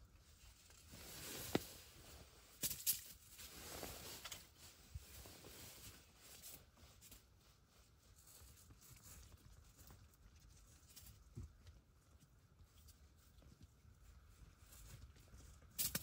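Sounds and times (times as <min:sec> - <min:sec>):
faint rustling: 0:00.0 - 0:16.0.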